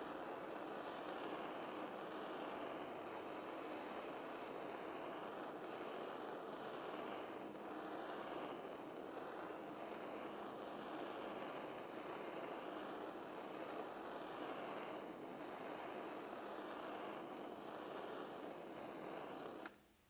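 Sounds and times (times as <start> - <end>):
kitchen torch hissing: 0.0 - 20.0.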